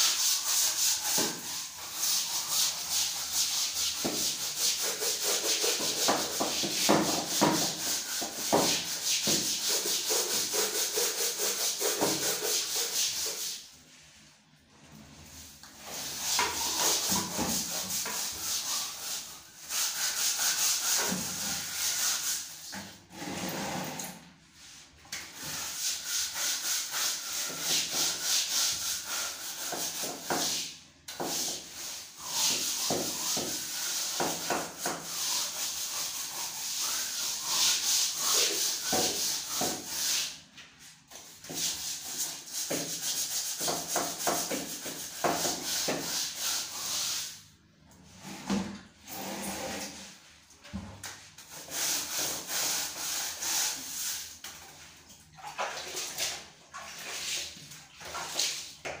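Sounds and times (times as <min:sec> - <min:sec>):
floor scrubber scrubbing tiles: 0:00.0 - 0:14.1, 0:14.9 - 0:24.3, 0:24.9 - 0:47.4, 0:48.1 - 0:50.8, 0:51.4 - 0:59.0.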